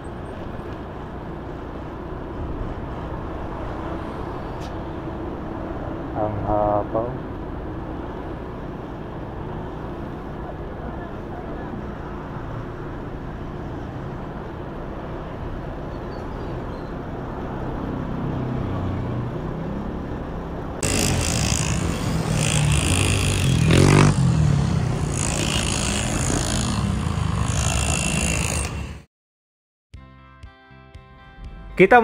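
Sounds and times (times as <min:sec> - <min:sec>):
road traffic rumble: 0:00.0 - 0:29.1.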